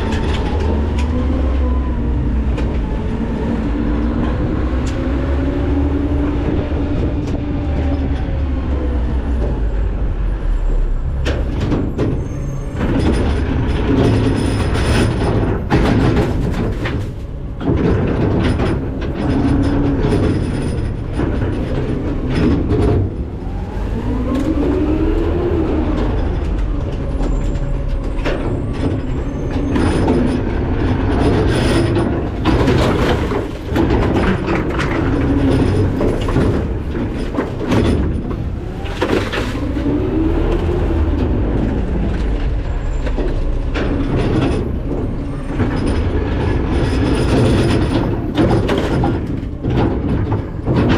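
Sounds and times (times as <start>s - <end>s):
trash clanking and crunching: 0.0s - 10.1s, 10.7s - 50.9s.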